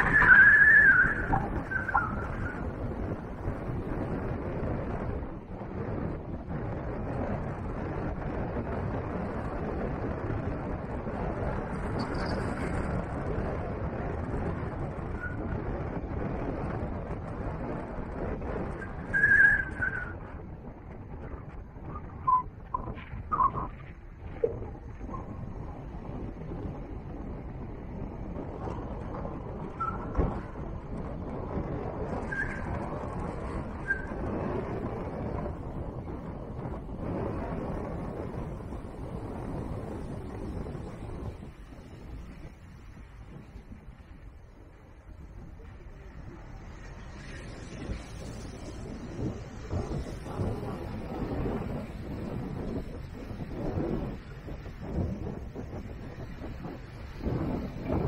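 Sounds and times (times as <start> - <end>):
vehicle rumbling on dirt track: 0.0 - 58.0
wind buffeting microphone: 0.0 - 58.0.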